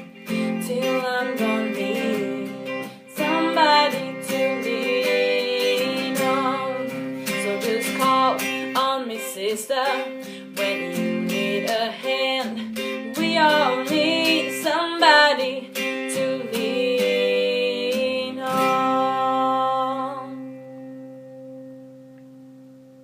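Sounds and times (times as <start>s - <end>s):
woman singing: 0.0s - 20.7s
strummed acoustic guitar: 0.0s - 23.0s.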